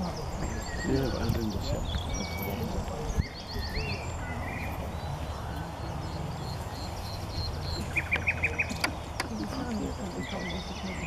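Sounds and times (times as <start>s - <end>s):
nightingale singing: 0.0s - 11.0s.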